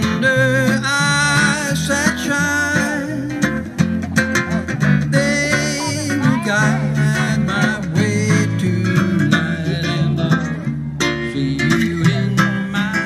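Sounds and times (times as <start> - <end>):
bass line: 0.0 - 13.0
strummed acoustic guitar: 0.0 - 13.0.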